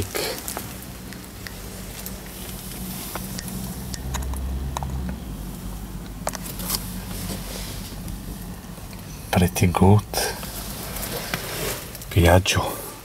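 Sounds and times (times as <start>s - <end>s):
truck cab hum: 0.0s - 13.0s.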